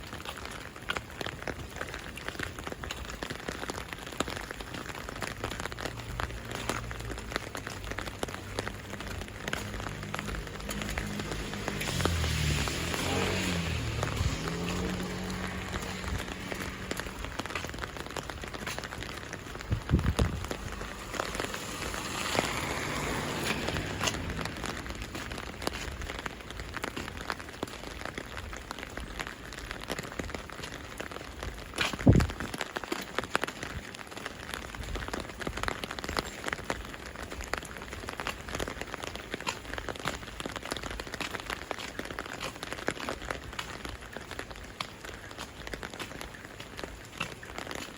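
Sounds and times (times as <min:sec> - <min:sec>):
rain drops ticking on surfaces: 0:00.0 - 0:47.9.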